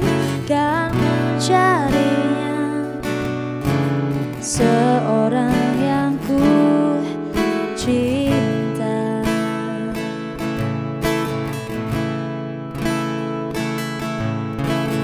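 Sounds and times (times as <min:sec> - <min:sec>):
ballad with strummed acoustic guitar: 0:00.0 - 0:15.0.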